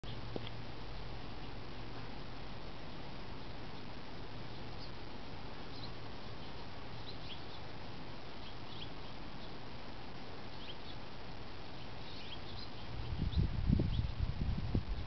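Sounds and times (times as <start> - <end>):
small birds chirping: 0.0 - 2.1, 3.5 - 15.0
steady background hiss: 0.0 - 15.0.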